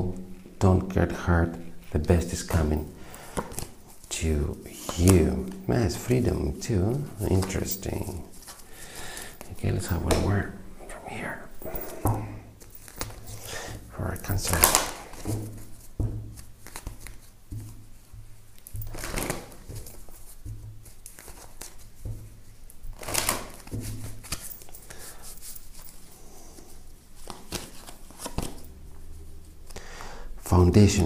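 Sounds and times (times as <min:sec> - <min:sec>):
cards being shuffled: 0:01.9 - 0:10.6, 0:11.6 - 0:29.8.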